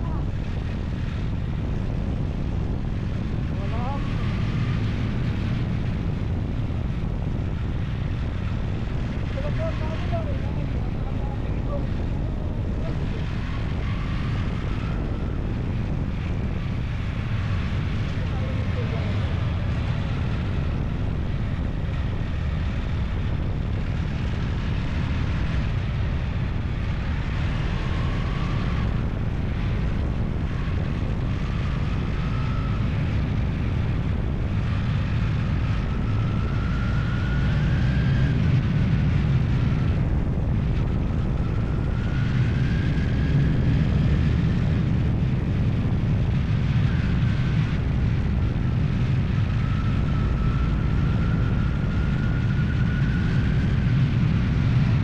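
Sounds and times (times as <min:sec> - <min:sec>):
engine whine rising in pitch: 0:00.0 - 0:55.0
vehicle engine rumble: 0:00.0 - 0:55.0.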